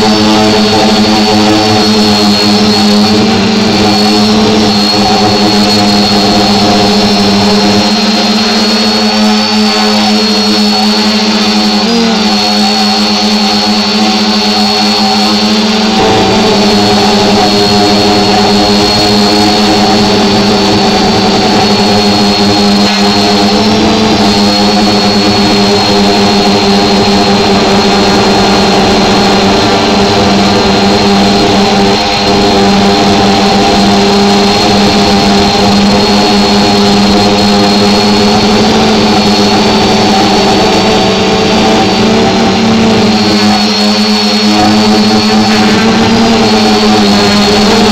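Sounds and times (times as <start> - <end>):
drone propellers humming: 0.0 - 47.9.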